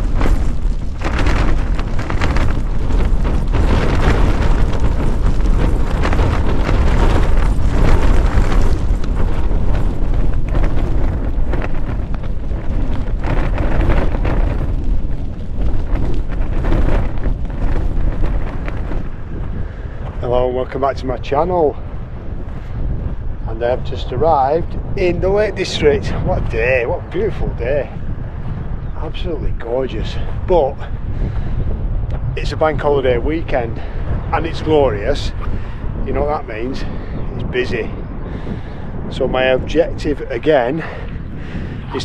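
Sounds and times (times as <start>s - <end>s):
strong wind gusting against tent: 0.0s - 42.0s.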